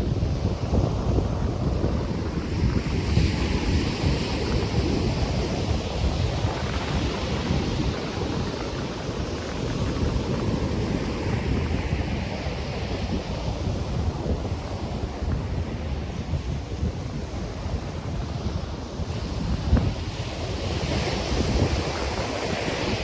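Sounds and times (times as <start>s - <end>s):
ocean surf washing onto beach: 0.0s - 23.0s
wind buffeting microphone: 0.0s - 23.0s.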